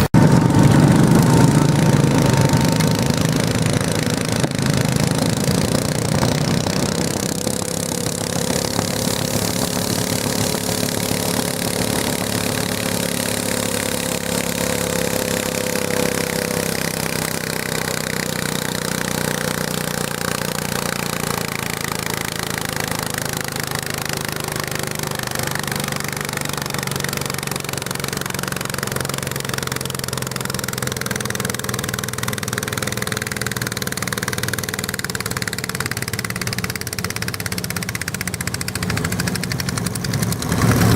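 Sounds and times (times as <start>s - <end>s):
tractor engine running loudly: 0.0s - 40.9s.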